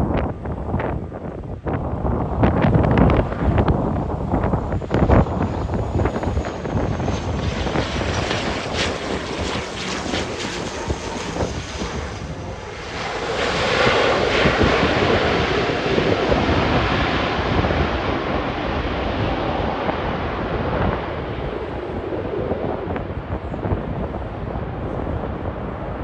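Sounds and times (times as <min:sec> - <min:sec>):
airliner engines: 0:00.0 - 0:26.0
wind buffeting microphone: 0:00.0 - 0:26.0.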